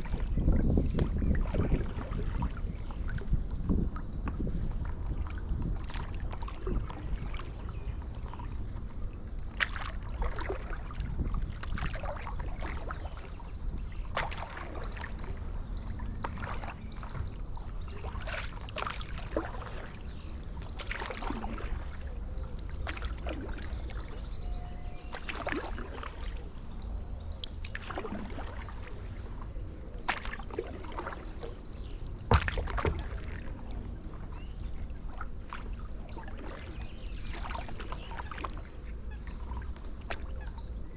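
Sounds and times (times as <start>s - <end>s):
low wind rumble: 0.0s - 40.9s
paddle splashing in water: 0.0s - 40.9s.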